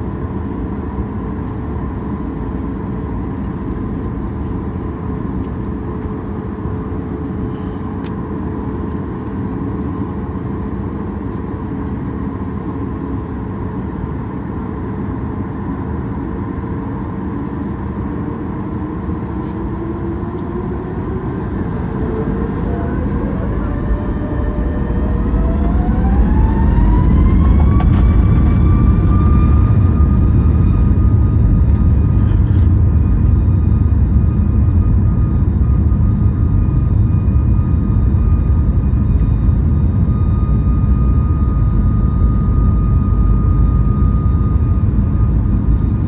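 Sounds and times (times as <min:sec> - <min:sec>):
jet engine hum and whine: 0:00.0 - 0:46.0.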